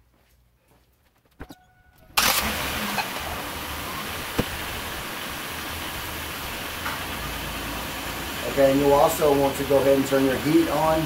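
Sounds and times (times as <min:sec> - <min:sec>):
car engine idling: 0:02.2 - 0:11.0.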